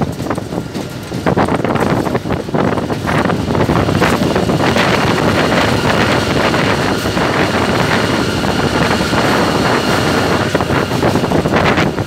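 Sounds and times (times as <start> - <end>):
train running noise: 0.0 - 12.0
wind rushing over microphone: 0.0 - 12.0.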